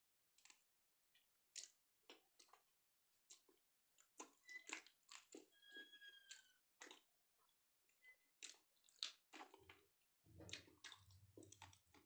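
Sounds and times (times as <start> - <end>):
man chewing food: 0.4 - 7.6, 8.3 - 12.0.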